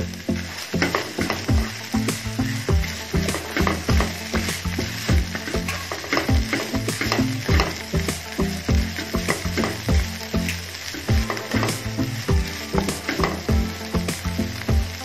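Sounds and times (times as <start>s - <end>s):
paste sizzling in oil: 0.0s - 15.0s
spatula scraping and knocking pan: 0.8s - 10.1s, 11.0s - 13.7s.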